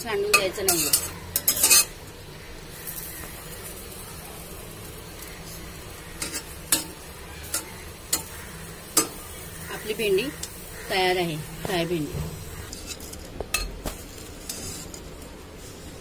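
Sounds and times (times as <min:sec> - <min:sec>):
okra sizzling in a pan: 0:00.0 - 0:16.0.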